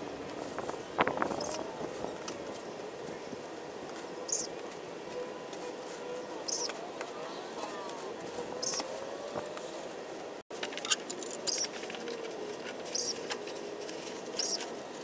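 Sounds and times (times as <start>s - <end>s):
rustles and clicks among shrubs: 0.0s - 15.0s
crinkly high-pitched rustles: 0.3s - 15.0s.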